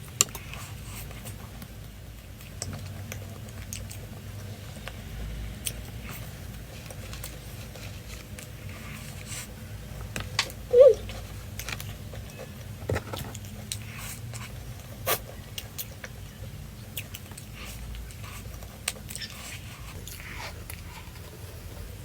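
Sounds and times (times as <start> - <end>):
crunchy food chewing: 0.0 - 22.0.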